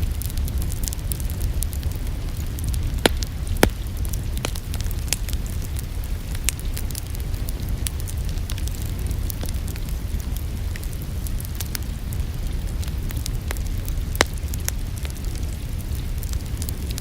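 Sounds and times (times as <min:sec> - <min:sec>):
rain hissing: 0:00.0 - 0:17.0
wood fire crackling: 0:00.0 - 0:17.0.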